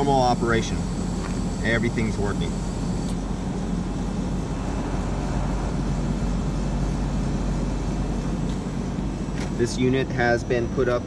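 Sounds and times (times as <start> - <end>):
fan rush of noise: 0.0 - 11.0
heat pump low hum: 0.0 - 11.0.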